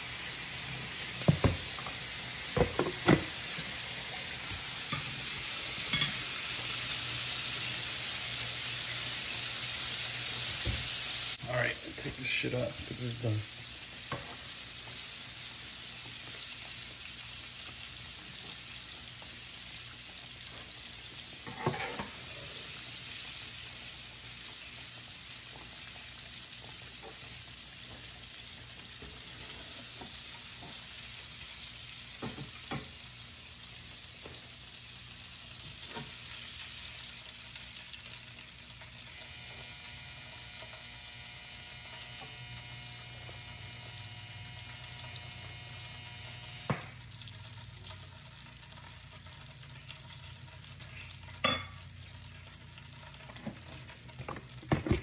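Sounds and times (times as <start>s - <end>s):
fish deep-frying in oil: 0.0s - 55.0s.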